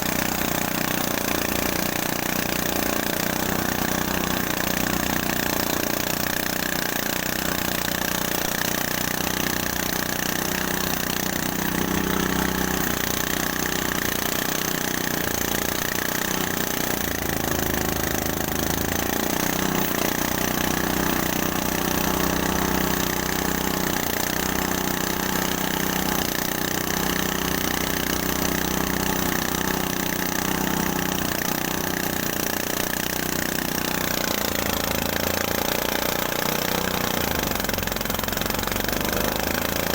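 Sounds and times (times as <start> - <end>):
threshing machine engine drone: 0.0 - 39.9.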